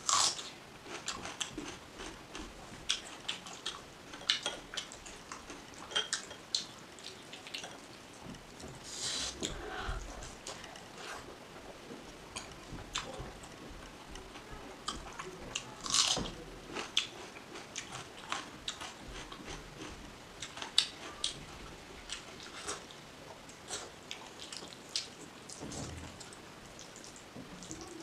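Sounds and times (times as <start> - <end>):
person chewing food: 0.0 - 7.9, 8.5 - 25.2.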